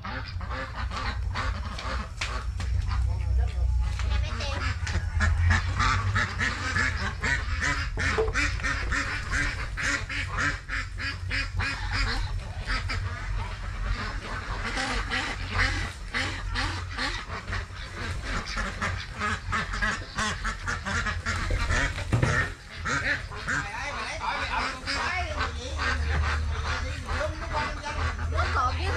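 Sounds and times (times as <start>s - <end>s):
ducks quacking: 0.0s - 28.9s.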